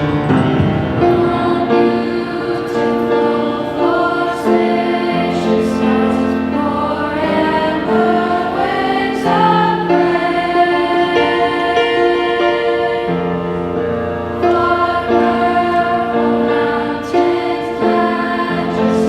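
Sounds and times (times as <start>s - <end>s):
choir singing held chords: 0.0s - 19.0s
piano: 0.0s - 19.0s.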